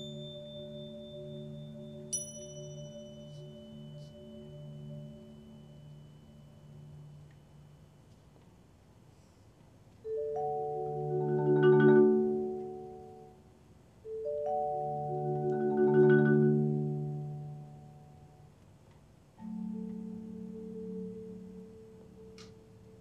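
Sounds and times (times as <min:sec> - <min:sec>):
marimba and vibraphone chords: 0:00.0 - 0:07.4, 0:10.0 - 0:18.5, 0:19.4 - 0:23.0.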